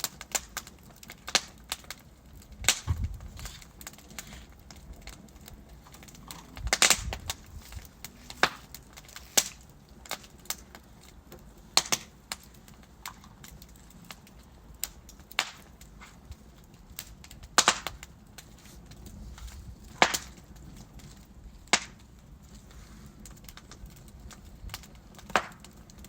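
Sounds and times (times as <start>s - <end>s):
low hiss of flames: 0.0s - 26.0s
sharp pops and snaps: 0.0s - 26.0s
wood fire crackling: 0.0s - 26.0s.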